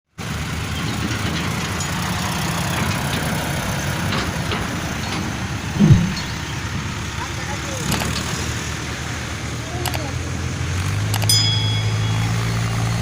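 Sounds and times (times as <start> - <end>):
heavy vehicle engine rumbling: 0.2 - 13.0.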